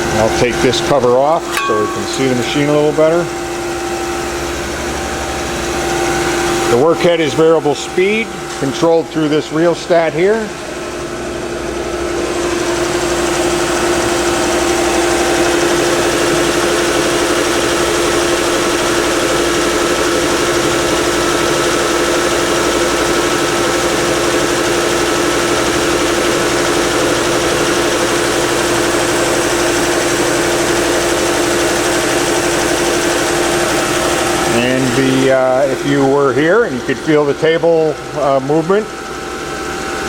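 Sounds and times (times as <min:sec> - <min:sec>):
grinder machine hum: 0:00.0 - 0:40.0.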